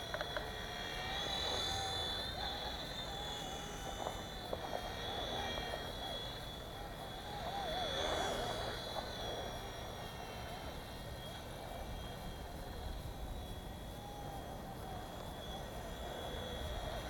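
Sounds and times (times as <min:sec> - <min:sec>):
toy helicopter motor whining: 0:00.0 - 0:17.0.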